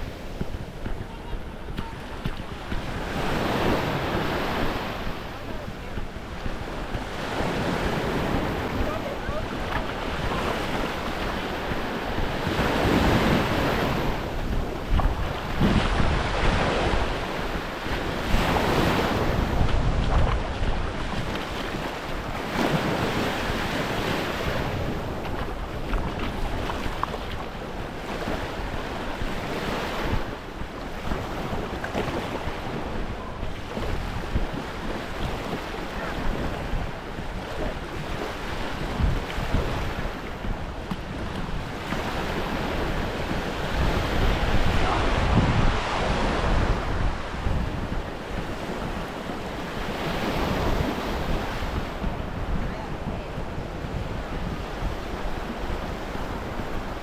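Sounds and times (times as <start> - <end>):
waves washing onto beach: 0.0 - 57.0
wind buffeting microphone: 0.0 - 57.0.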